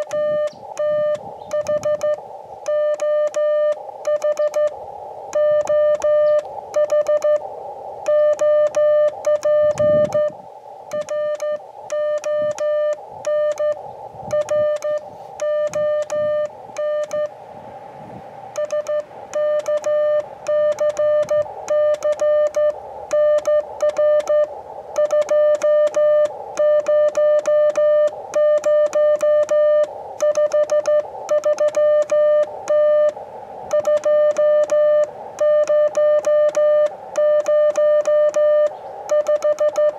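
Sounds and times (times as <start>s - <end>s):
morse code tone keyed on and off: 0.0s - 17.4s, 18.5s - 39.9s
faint hissy tones and static: 0.0s - 39.9s.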